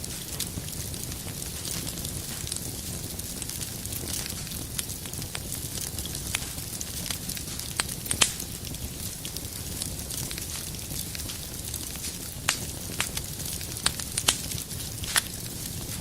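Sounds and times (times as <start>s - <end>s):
fire crackles: 0.0s - 16.0s
sharp pops of fire: 0.0s - 16.0s
wood fire rumble and hiss: 0.0s - 16.0s.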